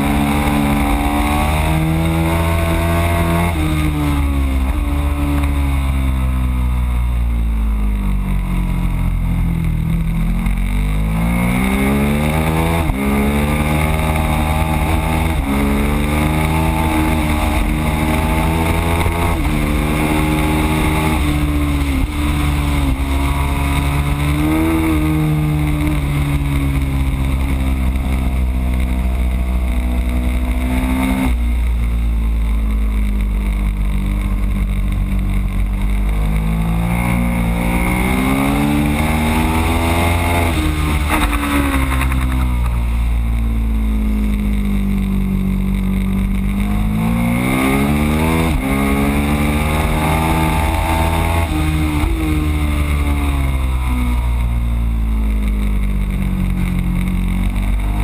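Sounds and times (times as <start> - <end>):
motorcycle engine at full throttle: 0.0 - 58.0.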